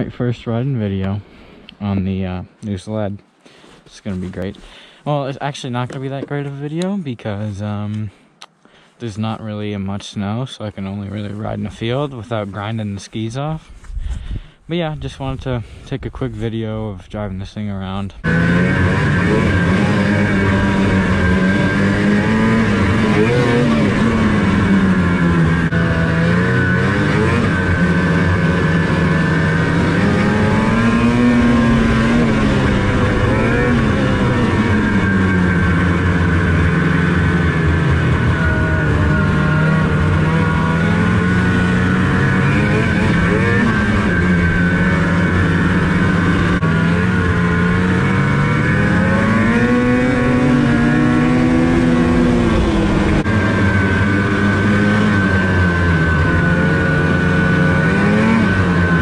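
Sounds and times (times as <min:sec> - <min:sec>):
snowmobile engine revving: 0:09.0 - 0:13.6, 0:14.8 - 0:59.0.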